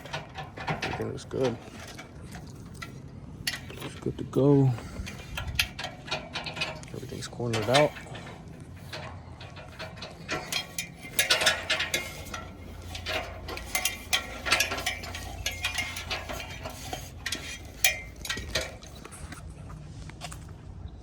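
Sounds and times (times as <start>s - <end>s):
irregular clicks and rattles: 0.0s - 19.5s
steady low hum: 0.0s - 21.0s.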